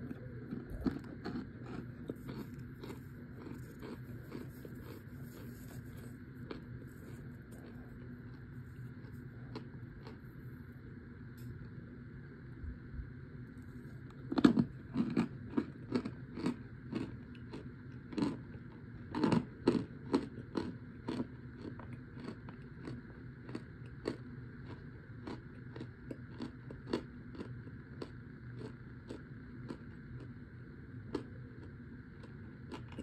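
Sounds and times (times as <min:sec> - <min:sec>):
crunchy chewing: 0:00.0 - 0:11.8, 0:13.5 - 0:33.0.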